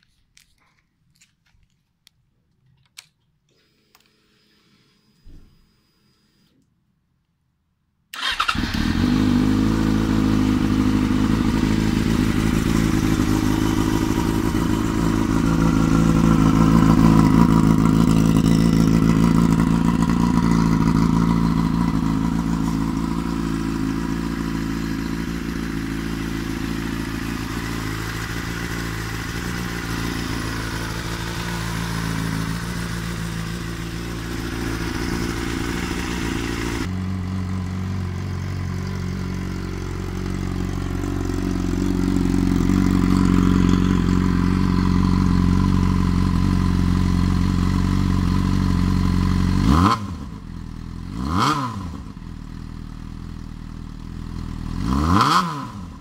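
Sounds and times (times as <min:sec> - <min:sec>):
motorcycle engine idling: 0:08.2 - 0:51.2, 0:51.9 - 0:55.1.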